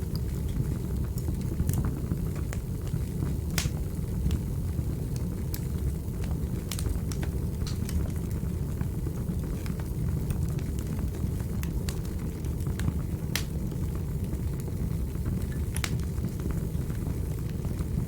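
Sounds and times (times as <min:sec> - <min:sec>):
fire crackles and pops: 0:00.0 - 0:18.0
wood fire rumbling: 0:00.0 - 0:18.0.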